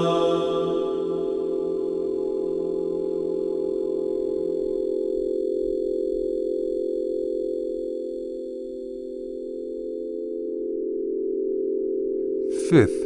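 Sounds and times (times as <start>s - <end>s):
meditation drone: 0.0s - 11.0s.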